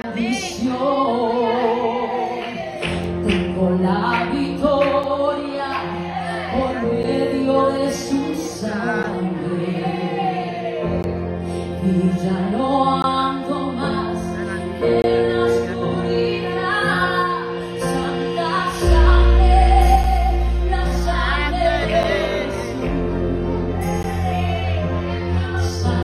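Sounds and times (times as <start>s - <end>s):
instrumental accompaniment with bass: 0.0s - 26.0s
woman singing: 0.0s - 26.0s.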